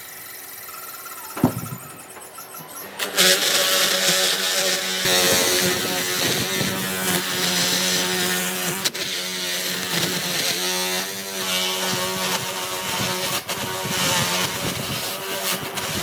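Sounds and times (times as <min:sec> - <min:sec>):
power tool running: 0:00.0 - 0:16.0.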